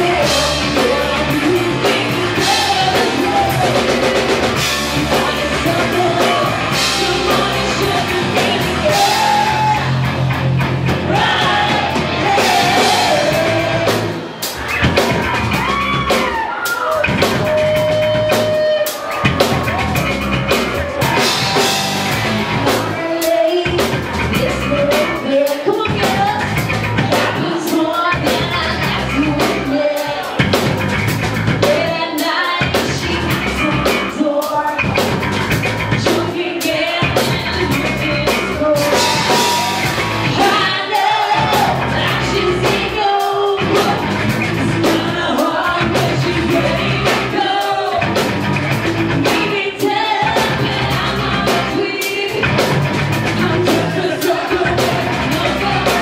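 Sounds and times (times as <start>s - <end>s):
woman singing: 0.0s - 10.1s, 11.0s - 14.2s, 17.2s - 19.0s, 21.0s - 30.5s, 31.6s - 35.1s, 35.9s - 48.3s, 49.2s - 56.0s
rock band playing: 0.0s - 56.0s.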